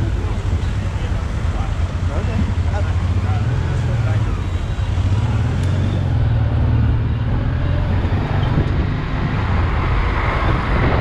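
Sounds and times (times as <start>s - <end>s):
motorcycle engine running: 0.0s - 10.4s
diesel truck engine: 0.0s - 11.0s
road and traffic noise: 0.0s - 11.0s.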